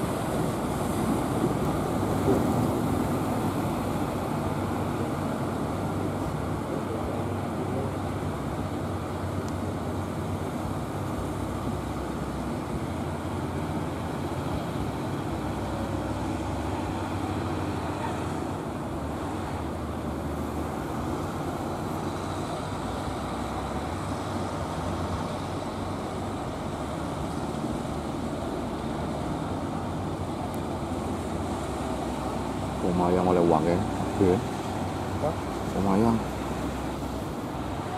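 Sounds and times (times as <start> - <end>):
waves breaking: 0.0 - 37.9.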